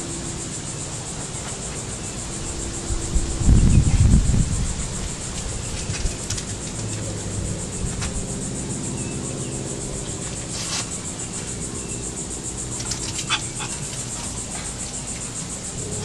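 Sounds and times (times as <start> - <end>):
high-pitched insect chirring: 0.0 - 16.0.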